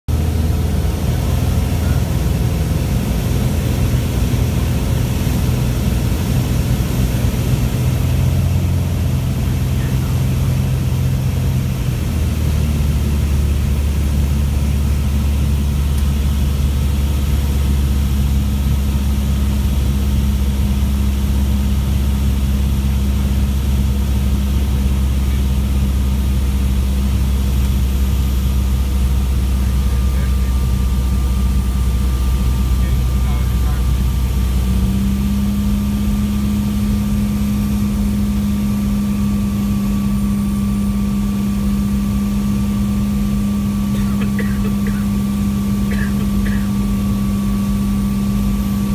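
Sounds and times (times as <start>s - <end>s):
aircraft engine and propeller drone: 0.1s - 48.9s.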